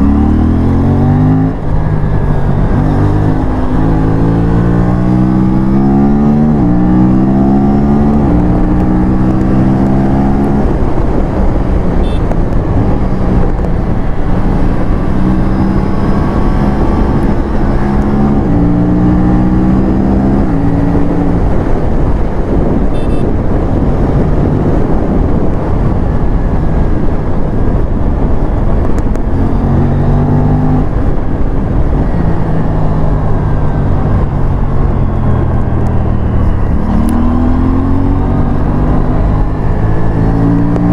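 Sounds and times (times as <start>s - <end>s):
motorcycle engine accelerating hard: 0.0s - 40.9s
wind rush on microphone: 0.0s - 40.9s.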